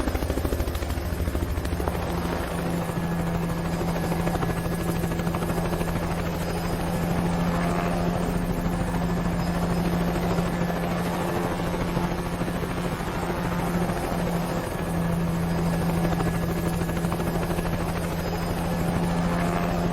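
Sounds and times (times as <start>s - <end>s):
helicopter rotor chop: 0.0s - 19.9s.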